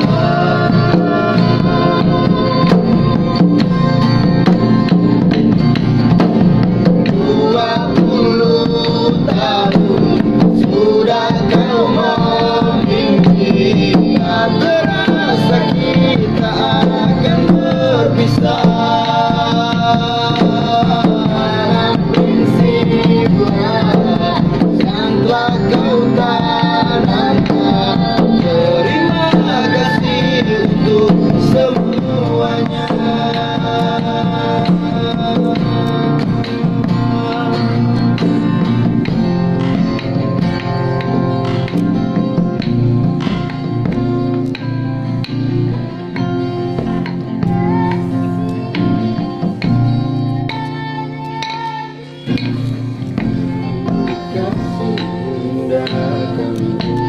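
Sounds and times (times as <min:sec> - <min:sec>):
person singing: 0:00.0 - 0:05.6, 0:06.2 - 0:41.3, 0:45.6 - 0:57.0
acoustic guitar: 0:00.0 - 0:57.0
hand drum: 0:00.0 - 0:57.0.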